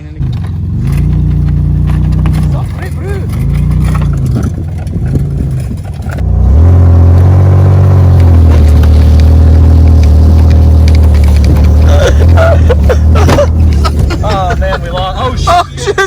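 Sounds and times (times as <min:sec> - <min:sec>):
car engine revving hard: 0:00.0 - 0:15.7.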